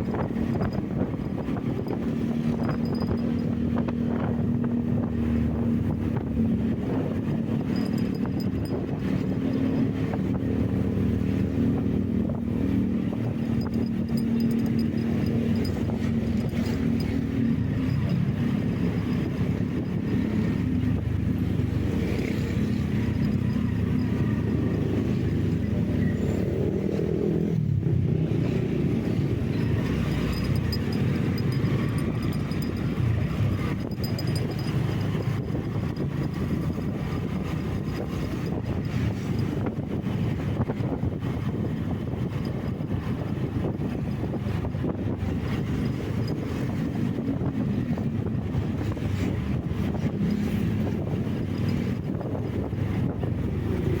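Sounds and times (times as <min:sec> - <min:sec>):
road and wind noise: 0:00.0 - 0:54.0
vehicle engine running: 0:00.0 - 0:54.0.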